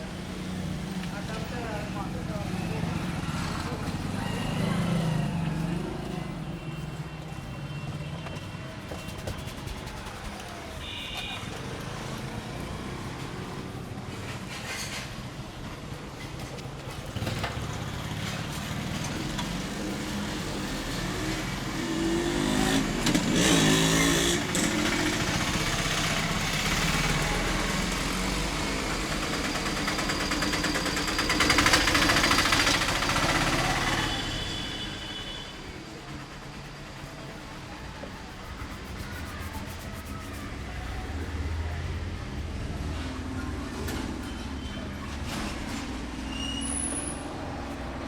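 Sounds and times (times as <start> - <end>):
motor vehicles passing: 0.0 - 48.0.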